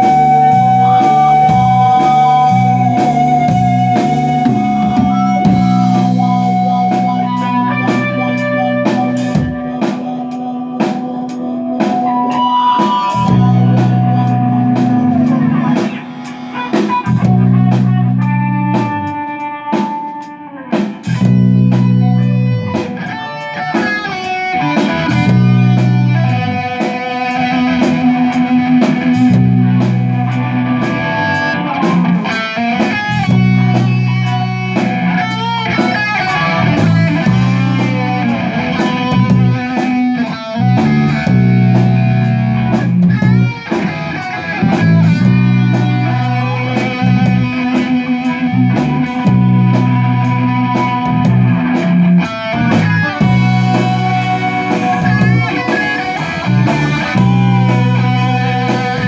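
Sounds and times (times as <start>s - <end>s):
drum kit: 0.0s - 59.0s
guitar line with bent notes: 0.0s - 59.0s
heavy electric guitar chords: 0.0s - 59.0s.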